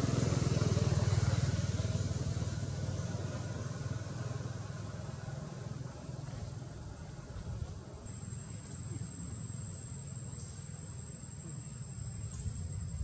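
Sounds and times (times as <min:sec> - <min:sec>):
engine pulsing hum: 0:00.0 - 0:13.0.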